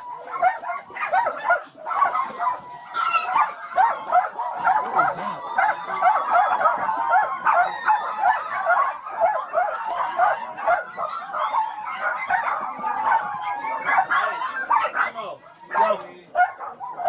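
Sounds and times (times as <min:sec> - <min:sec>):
many dogs barking and yelping: 0:00.0 - 0:17.0.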